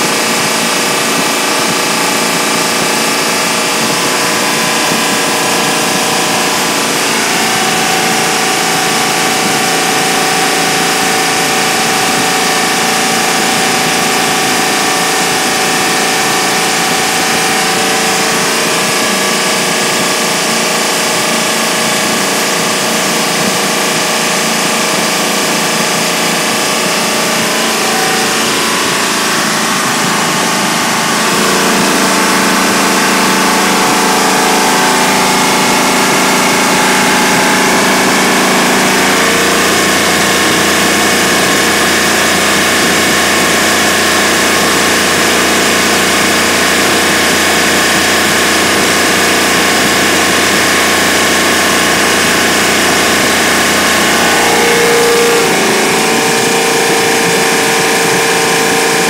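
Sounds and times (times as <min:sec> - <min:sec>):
engine running on a dyno: 0:00.0 - 0:59.0.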